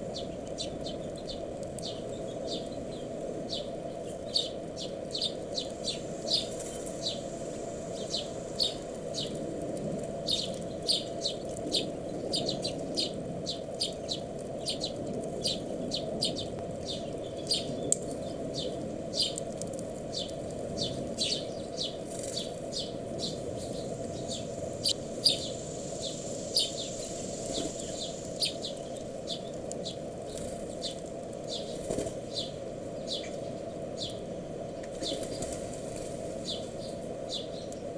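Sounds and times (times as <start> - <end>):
small birds chirping: 0.0 - 37.9
steady low hum: 0.0 - 37.9.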